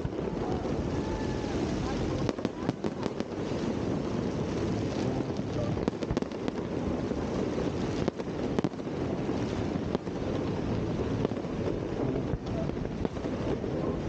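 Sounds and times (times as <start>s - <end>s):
distant fireworks popping and crackling: 0.0s - 14.0s
wind rumbling over microphone: 0.0s - 14.0s.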